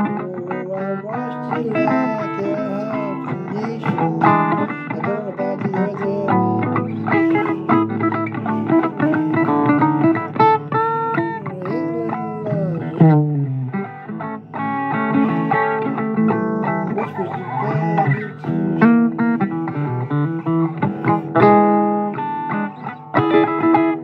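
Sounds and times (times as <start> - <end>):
blues electric guitar: 0.0 - 24.0.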